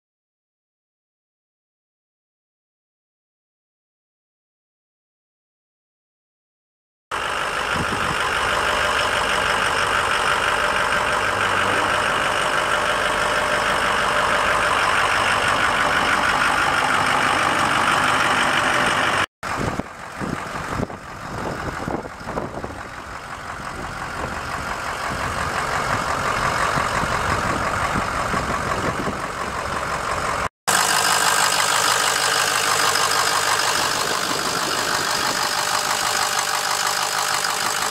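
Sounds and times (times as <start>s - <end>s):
diesel engine idling: 7.1s - 37.9s.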